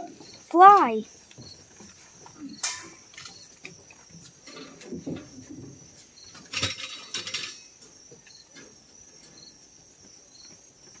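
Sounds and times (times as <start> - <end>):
faint insect chirps: 0.0 - 11.0
insects trilling: 0.0 - 11.0.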